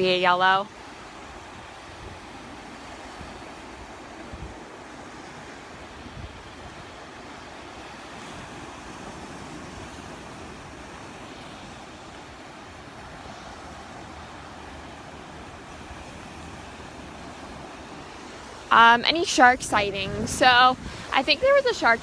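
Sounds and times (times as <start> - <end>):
surf on beach: 0.0 - 22.0
wind rumbling on microphone: 0.0 - 22.0.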